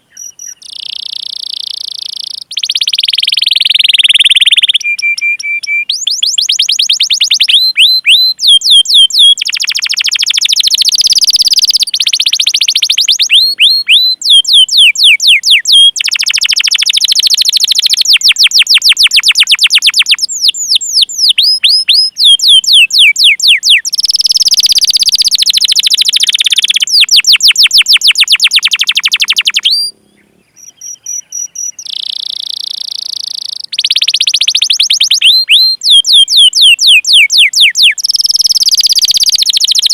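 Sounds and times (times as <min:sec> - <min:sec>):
canary singing trills and chirps: 0:00.0 - 0:39.9.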